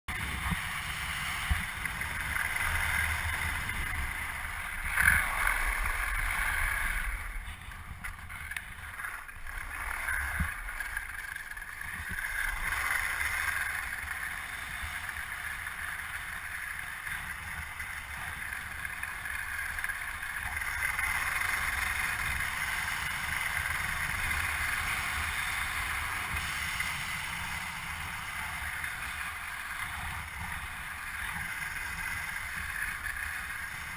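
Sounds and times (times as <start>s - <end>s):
kite board hissing across snow: 0.1s - 33.9s
wind rumbling on microphone: 0.1s - 33.9s.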